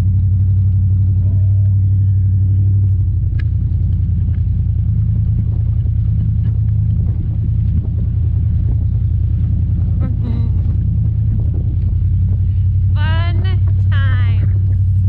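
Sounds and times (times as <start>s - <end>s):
pickup truck engine rumble: 0.0s - 15.0s
road noise on dirt road: 0.0s - 15.0s.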